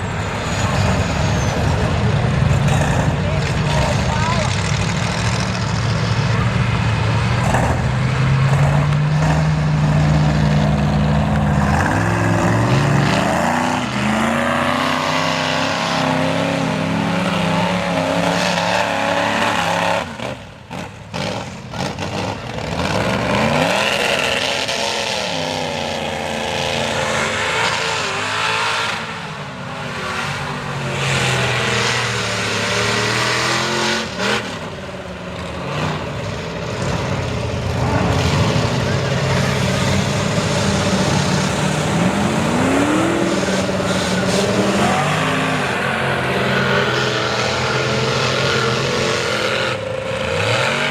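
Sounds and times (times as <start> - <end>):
truck engine revving: 0.0 - 50.9.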